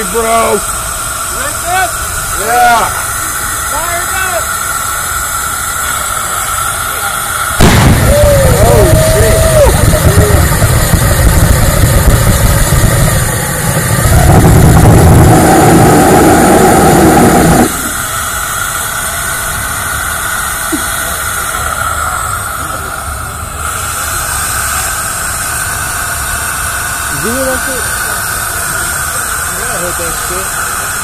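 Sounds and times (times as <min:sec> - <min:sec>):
ramjet engine roaring: 0:00.0 - 0:31.0
steady hiss: 0:00.0 - 0:31.0.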